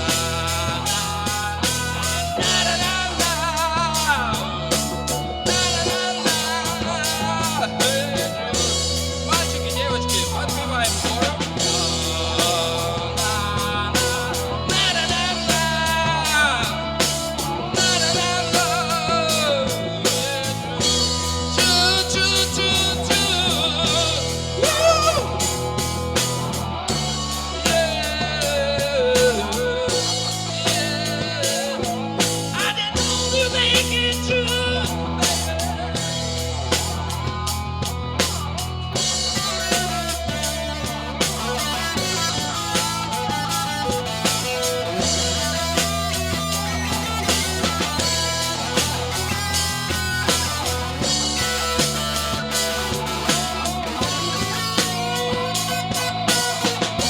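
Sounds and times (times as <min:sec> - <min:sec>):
rock and roll band playing: 0:00.0 - 0:57.0
wavering electric guitar lead: 0:00.0 - 0:57.0.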